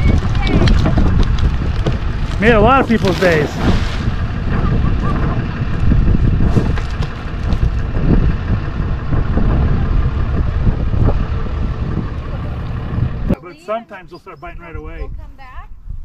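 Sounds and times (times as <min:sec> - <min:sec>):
truck engine rumbling: 0:00.0 - 0:13.6.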